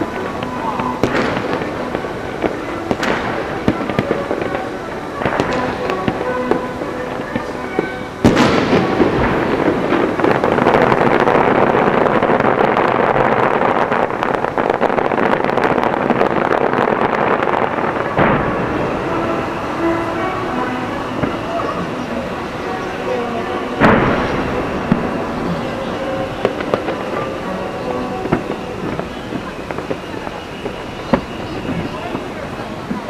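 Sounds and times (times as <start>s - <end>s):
loud firework boom: 0.0s - 4.5s, 8.2s - 22.4s, 23.7s - 33.0s
fireworks crackling: 0.0s - 33.0s.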